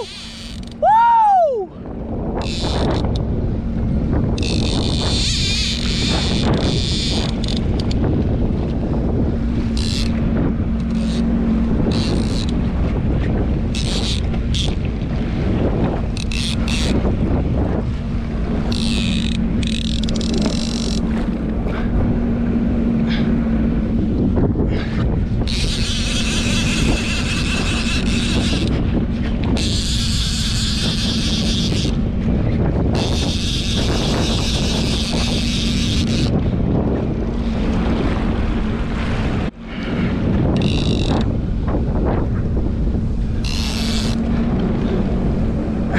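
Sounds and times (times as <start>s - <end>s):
jet ski engine droning: 0.0s - 45.9s
wind buffeting microphone: 0.0s - 45.9s.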